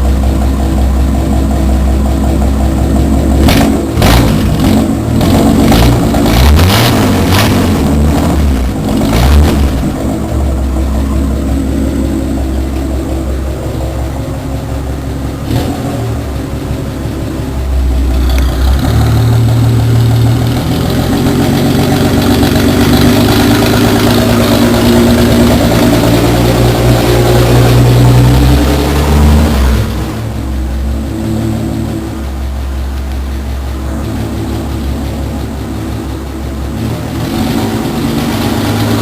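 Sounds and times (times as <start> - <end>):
car engine deep rumble: 0.0 - 39.0.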